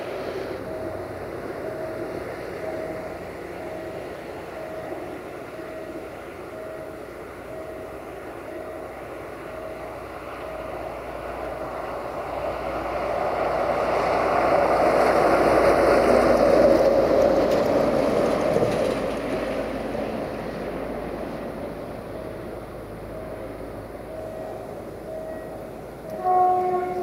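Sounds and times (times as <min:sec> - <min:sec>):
diesel freight train passing: 0:00.0 - 0:27.0.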